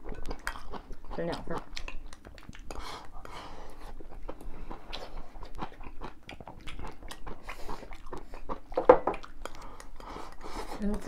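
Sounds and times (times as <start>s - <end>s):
chewing and mouth smacking: 0.0s - 11.0s.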